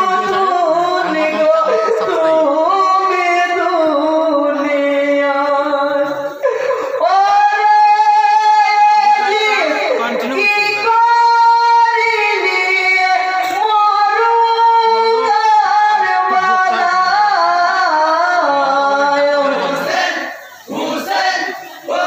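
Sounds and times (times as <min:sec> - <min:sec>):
man singing unaccompanied: 0:00.0 - 0:06.4, 0:07.0 - 0:22.0.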